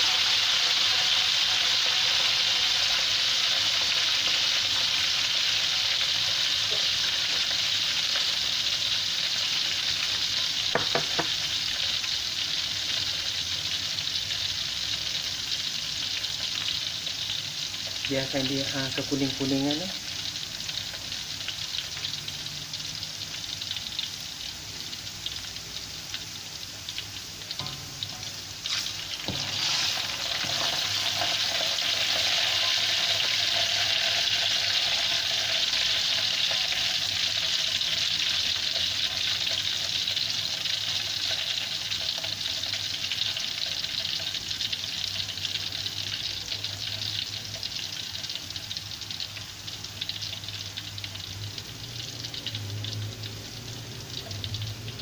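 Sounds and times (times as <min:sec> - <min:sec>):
garlic sizzling in hot oil: 0:00.0 - 0:55.0.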